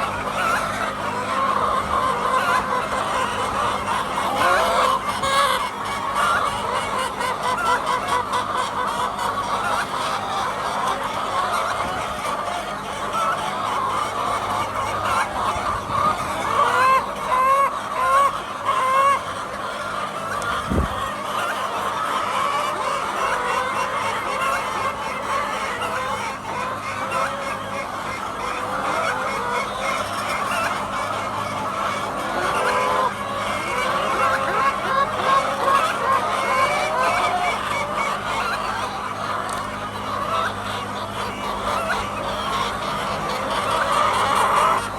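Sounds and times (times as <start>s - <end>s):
hens clucking: 0.0s - 44.9s.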